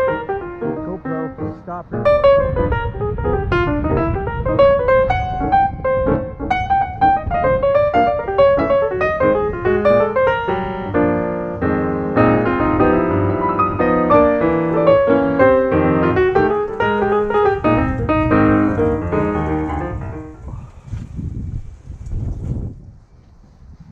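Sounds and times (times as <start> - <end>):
solo piano piece: 0.0 - 20.8.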